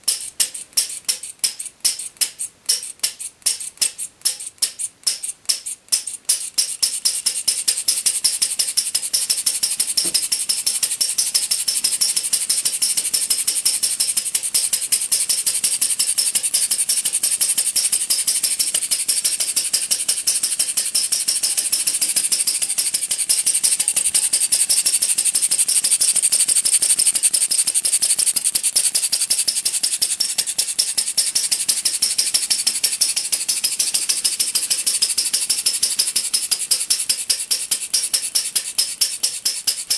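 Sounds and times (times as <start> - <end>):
model engine rattling clicks: 0.0 - 39.9.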